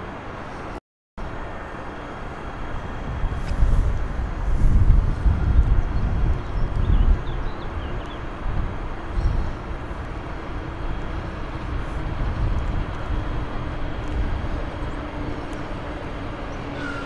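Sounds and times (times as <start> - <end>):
low hum: 0.0 - 17.0
train rumble: 0.0 - 17.0.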